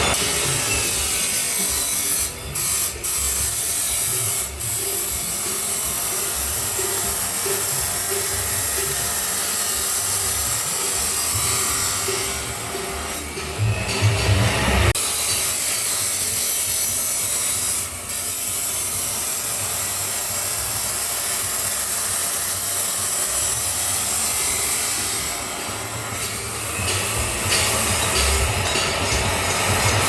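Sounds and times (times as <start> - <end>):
grinder cutting steel pipe: 0.0 - 30.0.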